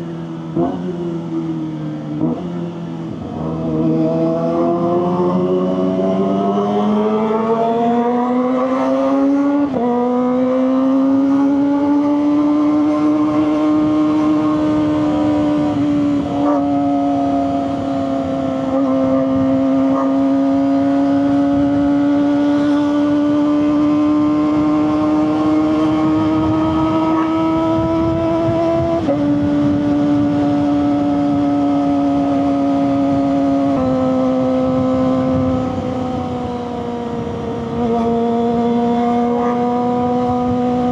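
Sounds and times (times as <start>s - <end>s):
motorcycle engine revving high: 0.0s - 40.9s.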